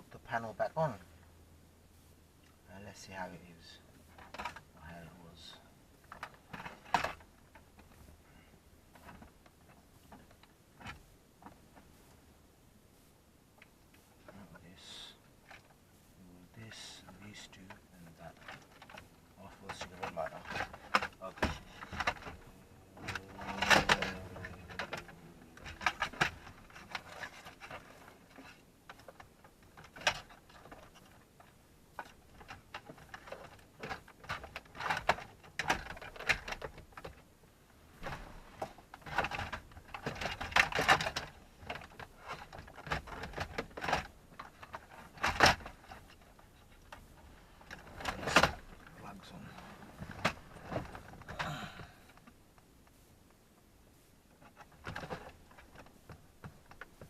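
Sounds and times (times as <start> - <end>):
rustling: 0.0 - 57.0.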